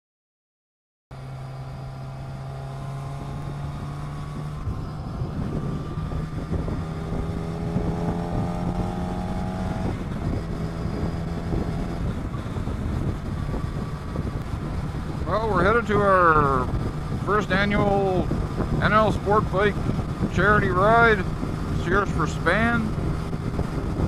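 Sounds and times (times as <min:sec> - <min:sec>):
motorcycle engine accelerating: 0:01.1 - 0:24.0
wind rushing over microphone: 0:01.2 - 0:24.0.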